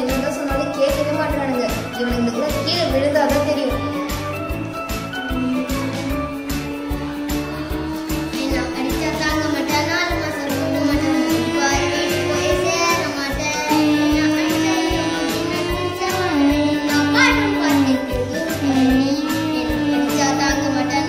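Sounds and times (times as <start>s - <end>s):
background music with steady beat: 0.0s - 21.0s.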